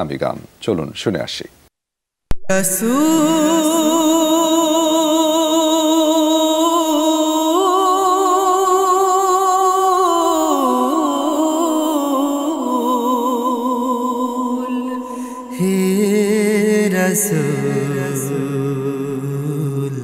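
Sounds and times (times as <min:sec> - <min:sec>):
male voices singing a cappella: 0:02.5 - 0:20.0.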